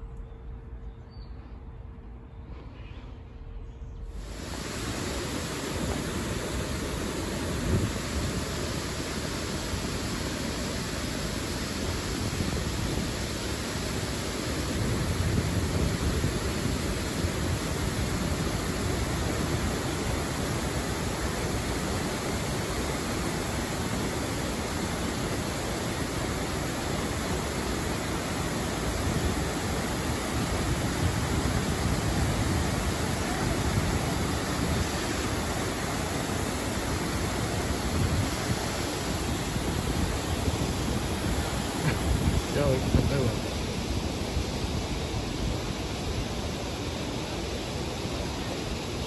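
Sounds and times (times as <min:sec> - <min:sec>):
water pouring down waterfall: 0:04.2 - 0:49.0.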